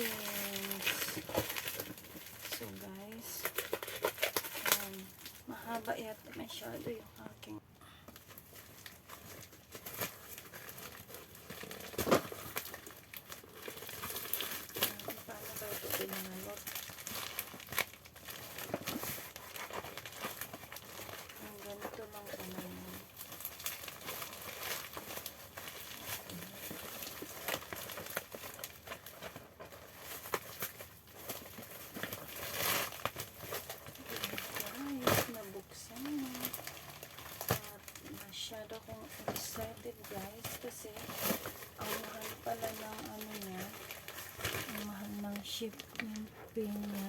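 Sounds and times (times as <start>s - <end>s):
package wrapping crinkling: 0.0s - 47.0s.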